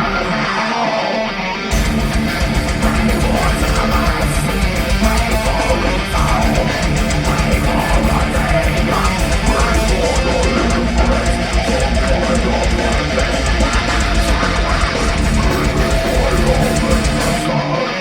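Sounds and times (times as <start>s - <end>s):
bass guitar: 0.0s - 18.0s
distorted electric guitars: 0.0s - 18.0s
steady drum beat: 1.7s - 17.5s.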